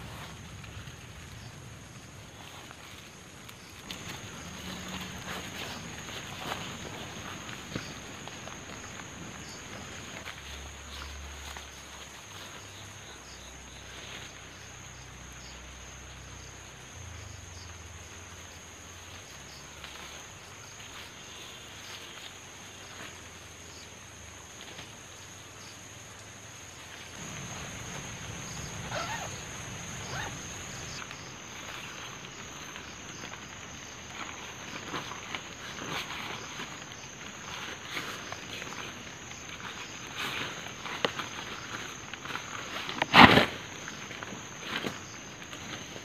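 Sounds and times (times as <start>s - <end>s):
rustling: 0.0s - 16.3s, 18.0s - 23.8s, 26.8s - 46.0s.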